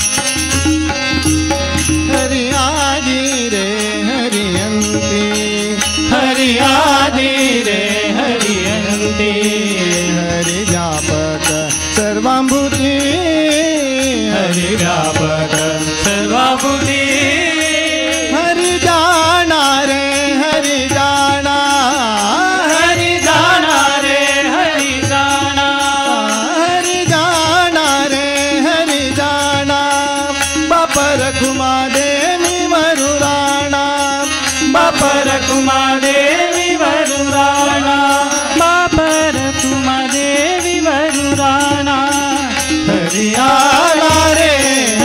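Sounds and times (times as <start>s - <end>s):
harmonium: 0.0s - 45.0s
man singing devotional song: 0.0s - 45.0s.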